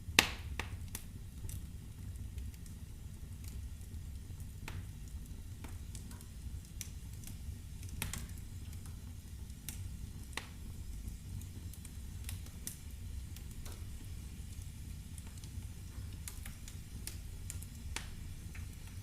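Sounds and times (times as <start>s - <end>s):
fire low rumble: 0.0s - 19.0s
wood fire crackling: 0.0s - 19.0s
fire popping: 0.1s - 19.0s.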